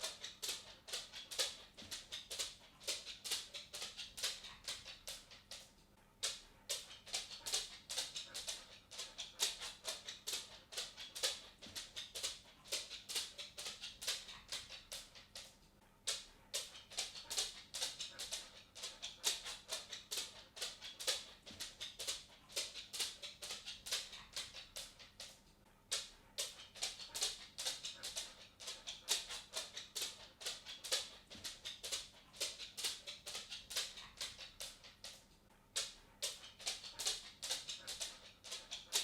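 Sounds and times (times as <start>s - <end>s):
dog claws clicking on wood: 0.0s - 39.0s.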